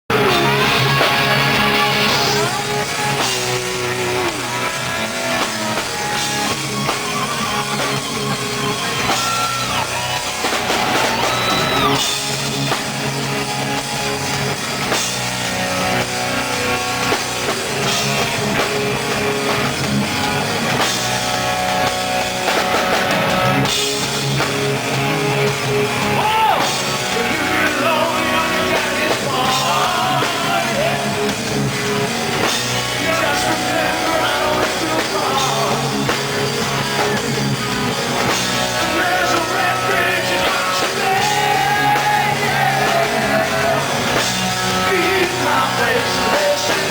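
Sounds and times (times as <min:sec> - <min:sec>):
rock band playing: 0:00.1 - 0:46.9.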